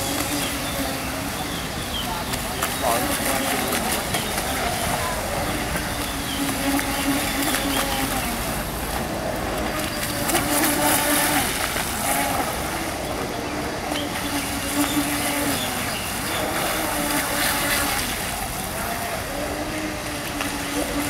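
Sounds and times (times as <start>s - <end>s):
model boat motor droning: 0.0s - 21.0s.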